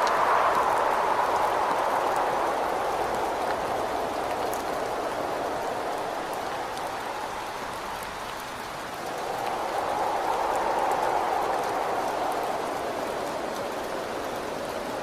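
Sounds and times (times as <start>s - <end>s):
rain against a window: 0.0s - 15.0s
wind: 0.0s - 15.0s.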